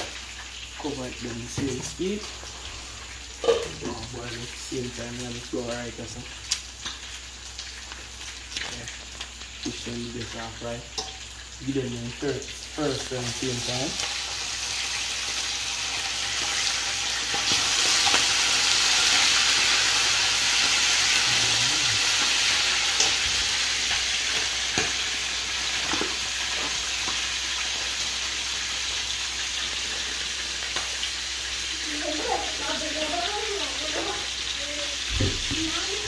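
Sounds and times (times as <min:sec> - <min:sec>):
fish sizzling in hot oil: 0:00.0 - 0:36.0.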